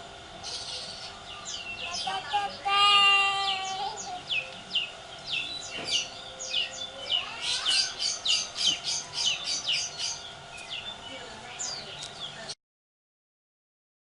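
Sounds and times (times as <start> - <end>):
small bird chirping: 0.4 - 12.6.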